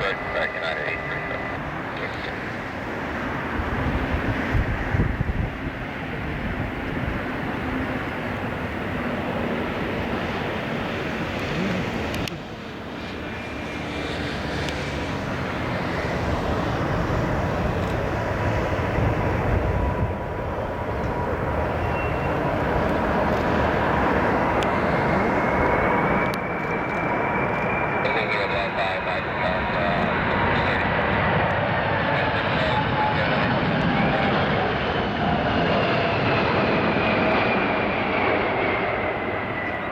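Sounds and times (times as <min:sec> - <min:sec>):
jet engines roaring and whining: 0:00.0 - 0:39.9.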